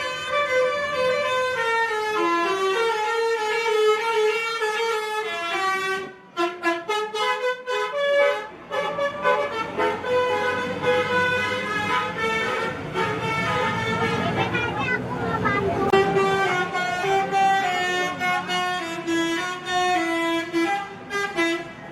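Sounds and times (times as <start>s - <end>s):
musical bus horn playing a tune: 0.0s - 21.9s.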